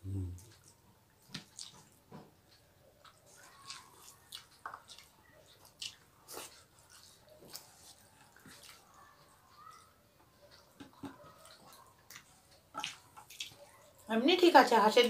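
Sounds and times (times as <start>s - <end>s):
people chewing: 0.0s - 14.1s.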